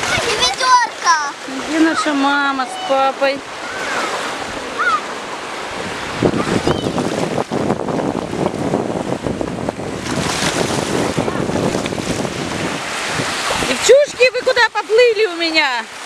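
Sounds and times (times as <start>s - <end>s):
small waves splashing: 0.0s - 16.0s
wind buffeting microphone: 0.0s - 16.0s.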